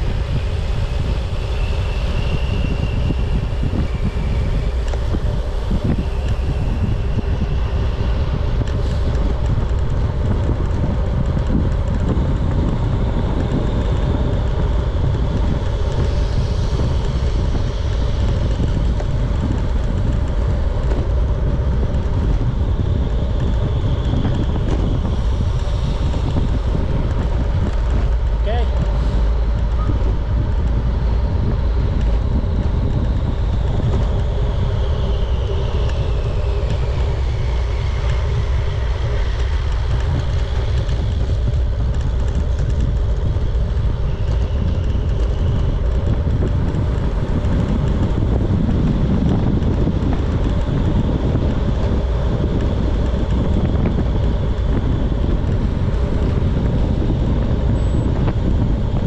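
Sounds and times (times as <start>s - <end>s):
bicycle road noise: 0.0s - 59.0s
wind rumble on microphone: 0.0s - 59.0s.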